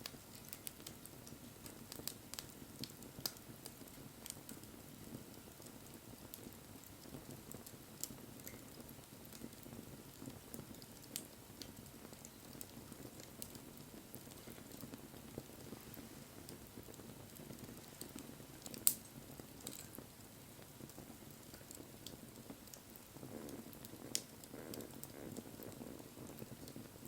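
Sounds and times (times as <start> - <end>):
bonfire crackling and snapping: 0.0 - 27.0
flames rustling: 0.0 - 27.0.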